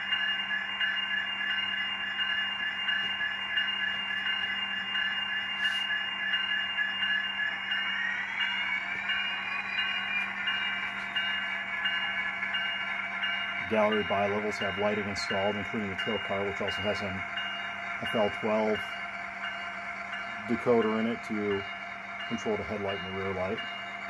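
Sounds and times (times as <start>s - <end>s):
diesel locomotive engine revving: 1.5s - 24.0s.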